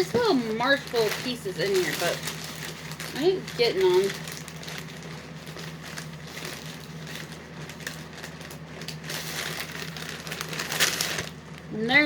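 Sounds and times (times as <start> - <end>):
crunchy cereal being chewed: 0.6 - 11.7.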